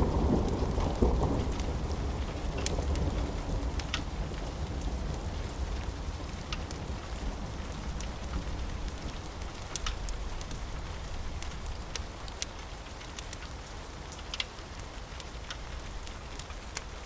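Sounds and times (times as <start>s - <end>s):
steady rain: 0.0s - 17.0s
wood fire crackling and popping: 0.2s - 17.0s.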